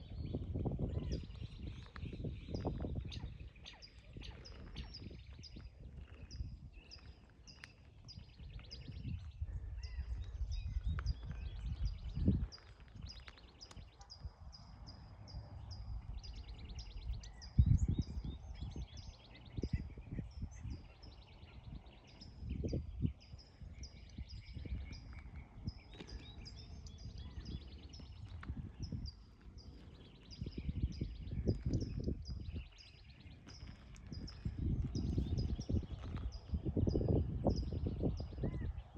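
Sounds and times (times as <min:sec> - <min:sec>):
low wind rumble: 0:00.0 - 0:38.9
small bird chirping: 0:00.3 - 0:38.7.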